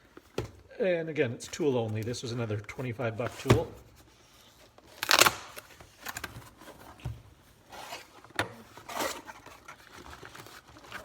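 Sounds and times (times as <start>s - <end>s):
packaging rustling and scraping: 1.8s - 11.0s.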